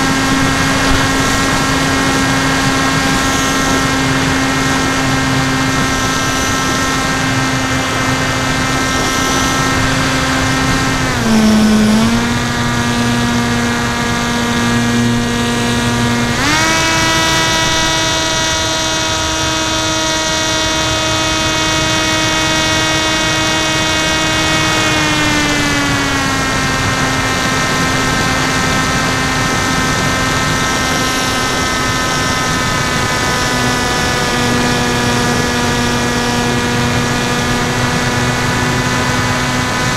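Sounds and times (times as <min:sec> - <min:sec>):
propeller whine: 0:00.0 - 0:39.9.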